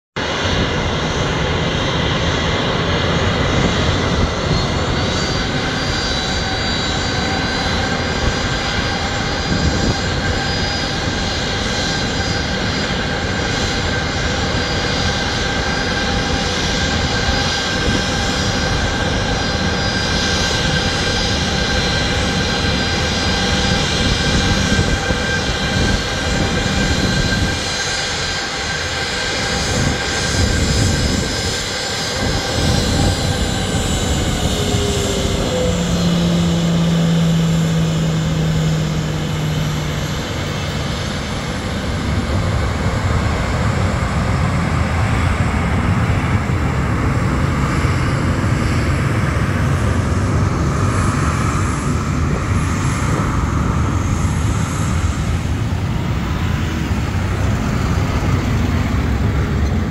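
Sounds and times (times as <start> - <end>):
jet engine whine: 0.1 - 59.9
jet engine rushing roar: 0.2 - 59.9.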